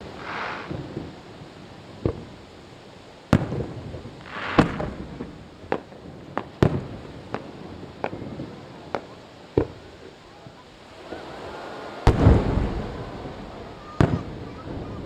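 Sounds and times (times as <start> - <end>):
firework hiss: 0.0 - 15.0
fireworks bursting with bangs: 0.0 - 15.0.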